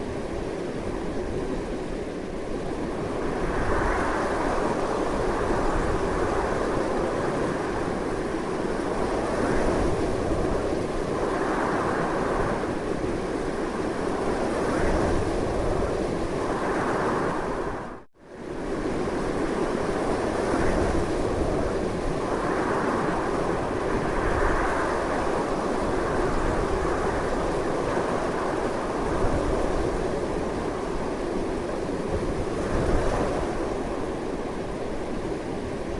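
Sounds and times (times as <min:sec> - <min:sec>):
strong wind rushing: 0:00.0 - 0:35.9.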